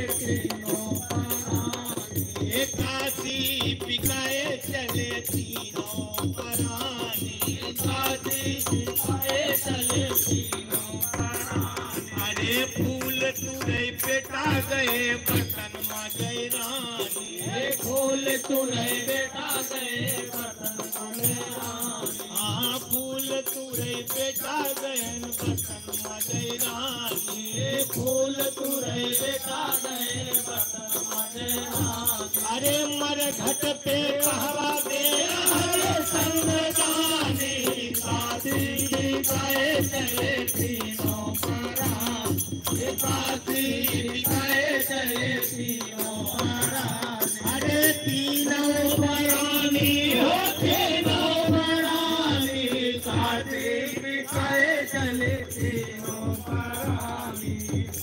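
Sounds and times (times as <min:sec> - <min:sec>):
hand drums rhythm: 0:00.0 - 0:58.0.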